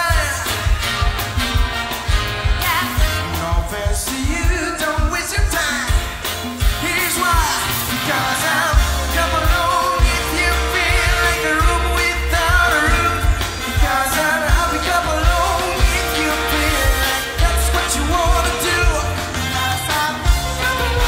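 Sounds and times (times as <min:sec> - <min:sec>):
bass: 0:00.0 - 0:21.0
big band music: 0:00.0 - 0:21.0
steady drum beat: 0:00.0 - 0:21.0.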